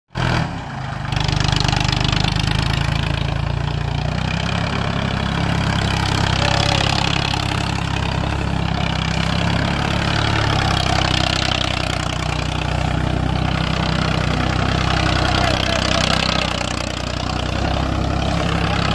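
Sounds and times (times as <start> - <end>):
tractor diesel engine running: 0.1 - 18.9.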